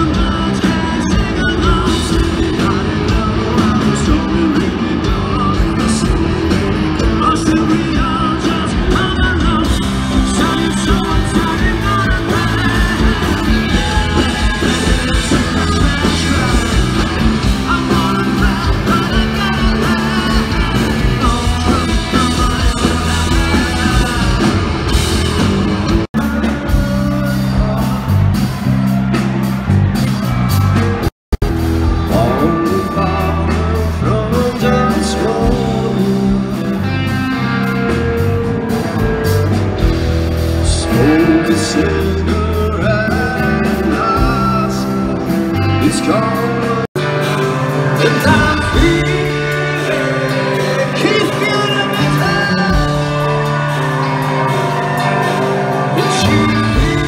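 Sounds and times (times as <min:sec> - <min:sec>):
person singing and shouting: 0:00.0 - 0:31.1, 0:31.8 - 0:39.6, 0:40.4 - 0:57.0
bass guitar: 0:00.0 - 0:57.0
drums: 0:00.0 - 0:57.0
electric guitar: 0:00.0 - 0:57.0.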